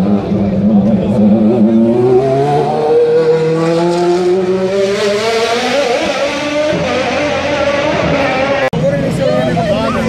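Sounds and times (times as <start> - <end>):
racing car engine accelerating: 0.0 - 9.2.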